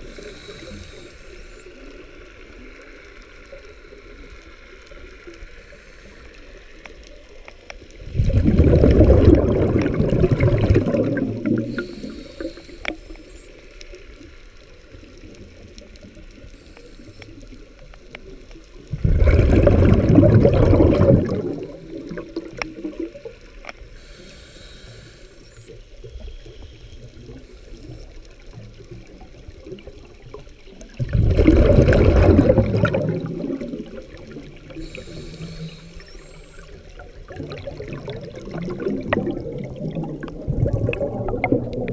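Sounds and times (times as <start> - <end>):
faint clicks: 0.0 - 8.0, 10.7 - 18.9, 20.7 - 31.1, 32.8 - 41.9
low water hiss: 0.0 - 41.9
underwater bubbling bursts: 0.0 - 41.9.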